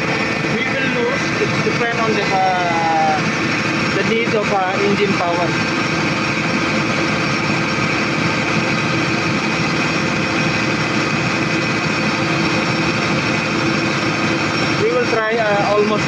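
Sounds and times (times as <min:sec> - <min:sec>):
excavator diesel engine running: 0:00.0 - 0:16.0
hydraulic pump whine: 0:00.0 - 0:16.0.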